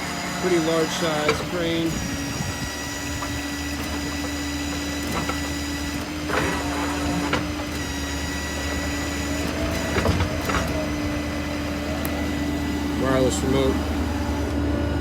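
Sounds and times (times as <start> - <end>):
diesel engine with hydraulic whine: 0.0 - 15.0.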